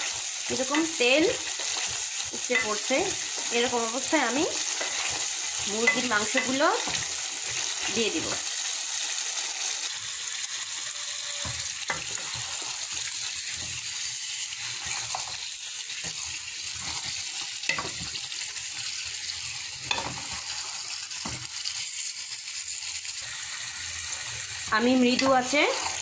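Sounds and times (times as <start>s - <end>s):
frying hiss in oil: 0.0s - 26.0s.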